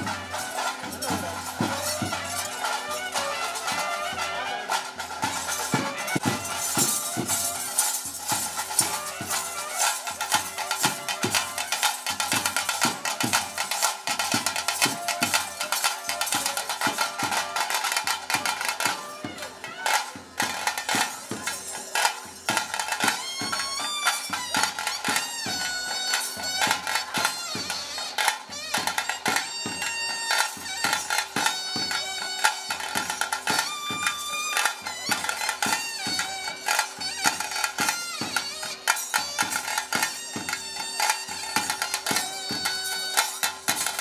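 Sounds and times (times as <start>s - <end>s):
drums beating: 0.0s - 44.0s
wind instrument melody: 0.0s - 44.0s.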